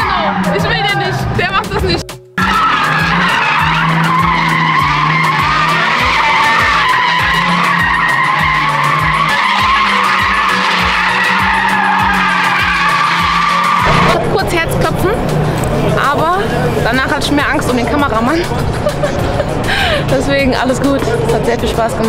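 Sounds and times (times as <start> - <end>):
car tyres squealing: 0.0 - 1.5, 2.4 - 22.0
car engine at high revs: 2.4 - 22.0.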